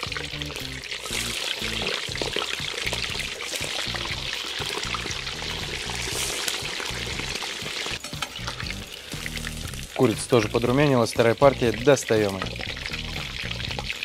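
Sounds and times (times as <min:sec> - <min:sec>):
background music with bass line: 0:00.0 - 0:14.0
chicken deep-frying in oil: 0:00.0 - 0:14.0.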